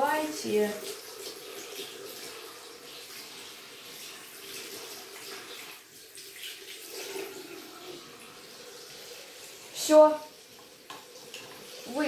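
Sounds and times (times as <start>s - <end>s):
tap water running into sink: 0.0s - 12.0s.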